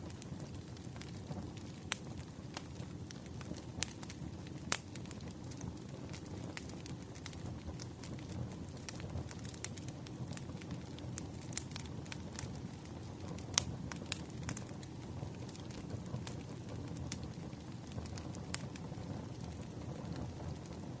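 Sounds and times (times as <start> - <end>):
low rumble of flame: 0.0 - 21.0
wood crackling and popping: 0.0 - 21.0.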